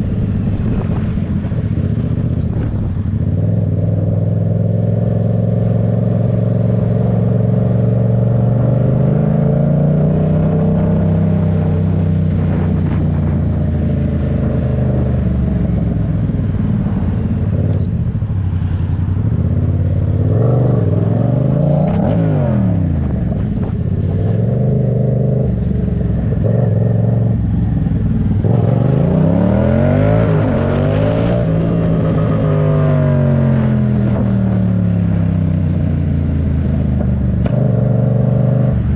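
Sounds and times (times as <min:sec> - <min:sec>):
motorcycle engine accelerating: 0:00.0 - 0:38.9
wind rumble on microphone: 0:00.0 - 0:38.9.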